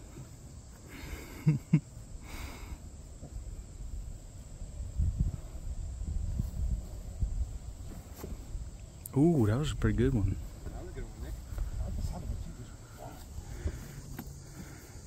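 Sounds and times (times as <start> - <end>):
crickets droning: 0.0 - 15.0.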